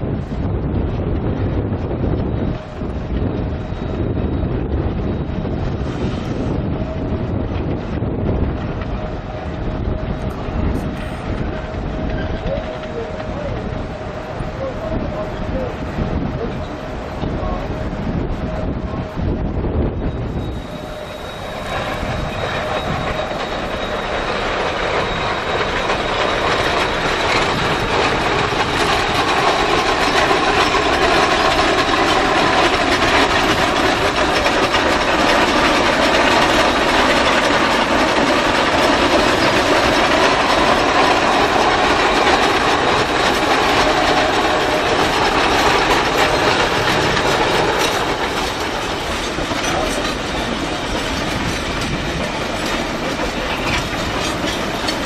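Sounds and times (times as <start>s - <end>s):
steel wheels clattering over rail joints: 0.0s - 55.0s.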